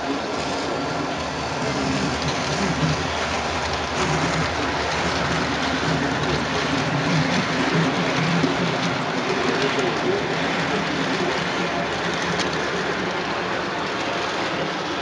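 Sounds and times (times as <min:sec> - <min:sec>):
model train running on rails: 0:00.0 - 0:15.0.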